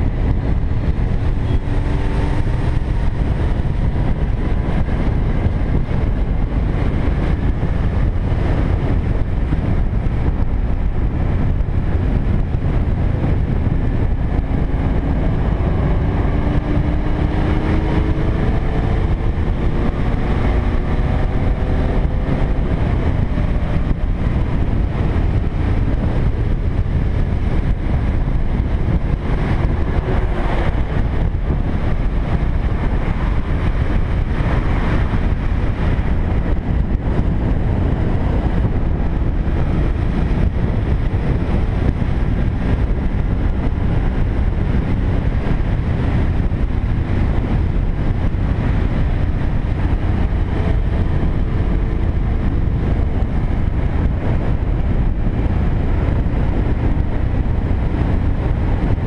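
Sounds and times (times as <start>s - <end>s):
motorcycle engine drone: 0.0s - 59.0s
wind rush on microphone: 0.0s - 59.0s.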